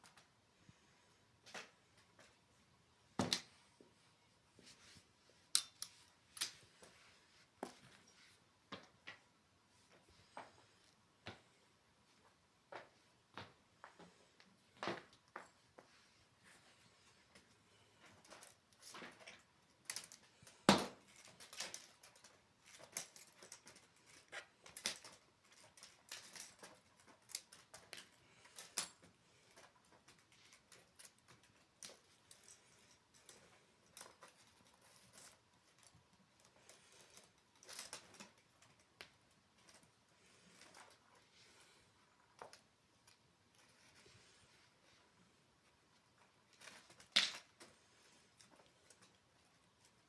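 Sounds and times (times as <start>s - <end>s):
faint small clicks and rustles: 0.0s - 50.0s.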